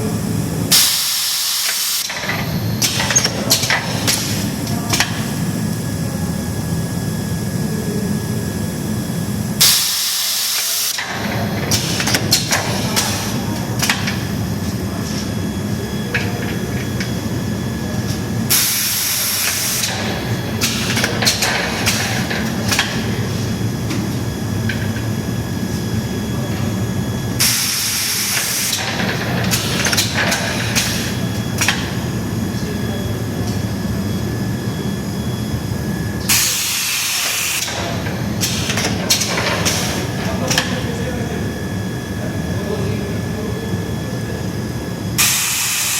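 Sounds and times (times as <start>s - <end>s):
welding machine humming: 0.0s - 42.2s.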